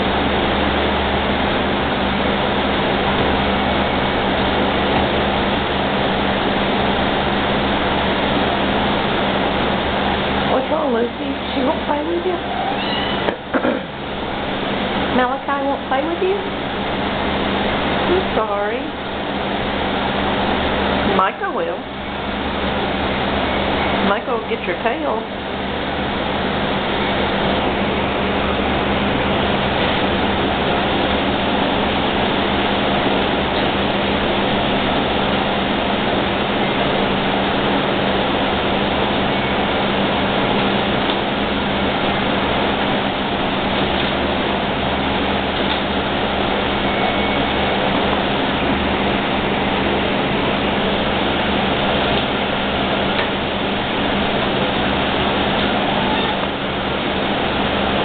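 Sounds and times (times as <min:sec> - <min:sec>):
steady rushing noise with hum: 0:00.0 - 0:58.0.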